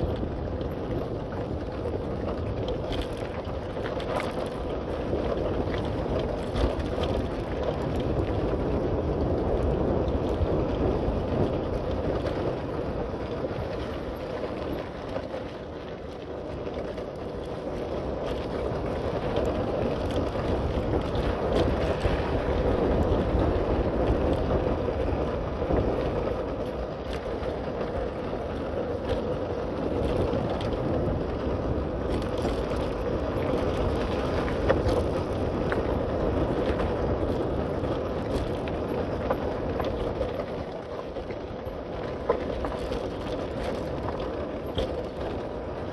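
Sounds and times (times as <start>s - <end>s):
bicycle rolling rumble: 0.0s - 45.9s
wind rushing over microphone: 0.0s - 45.9s.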